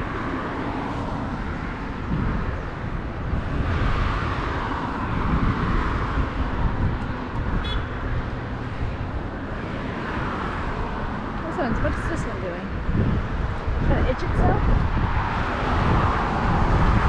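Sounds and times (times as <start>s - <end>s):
car passing: 0.0s - 17.0s.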